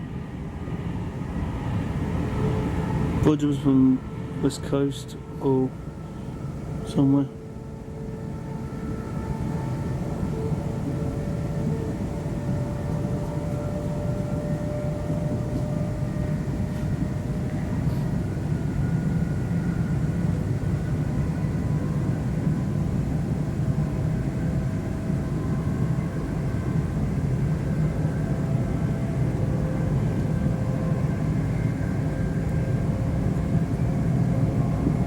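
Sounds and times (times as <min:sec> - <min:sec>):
faint whining tones: 0:00.0 - 0:35.0
train rumbling on track: 0:00.0 - 0:35.0.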